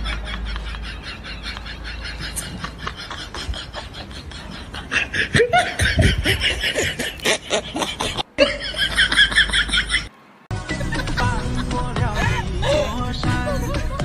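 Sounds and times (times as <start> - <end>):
hearty laughter: 0.0 - 14.0.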